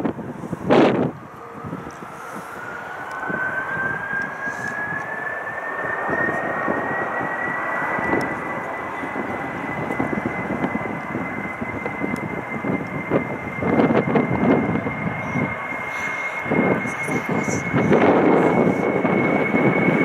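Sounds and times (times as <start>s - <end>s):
jet engines spooling up: 0.0s - 20.0s.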